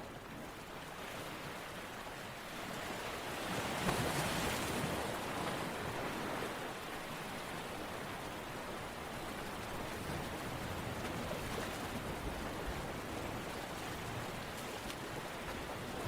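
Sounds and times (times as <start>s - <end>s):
rushing water: 0.1s - 16.0s.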